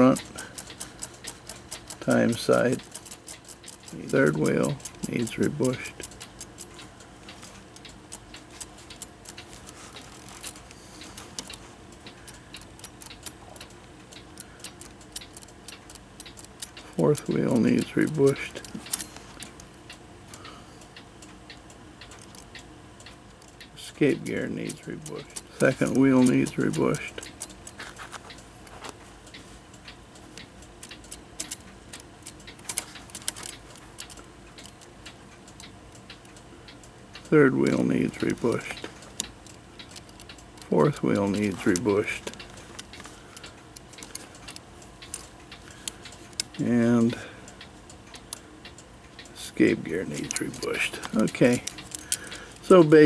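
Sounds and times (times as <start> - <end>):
metallic clicks of clock parts: 0.0 - 53.0.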